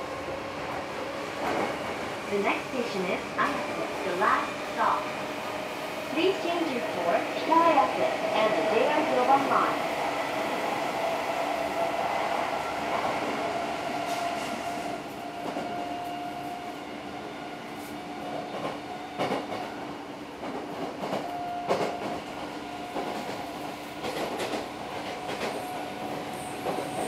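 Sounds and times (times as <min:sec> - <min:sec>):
passing train: 0:00.0 - 0:27.0.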